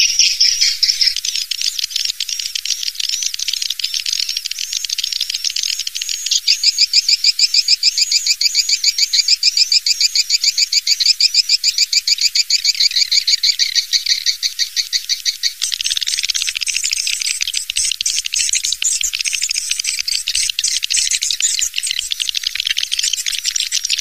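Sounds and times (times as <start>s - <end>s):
high twittering swiftlet chirps: 0.0s - 24.0s.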